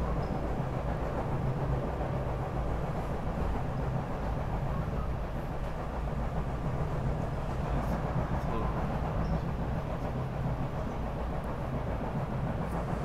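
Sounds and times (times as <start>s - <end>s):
train interior low rumble: 0.0s - 13.0s.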